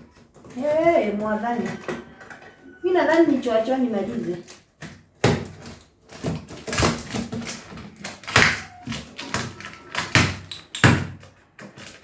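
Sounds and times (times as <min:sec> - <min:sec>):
handling noise: 0:00.0 - 0:12.0
pots knocking and clunking: 0:00.0 - 0:12.0.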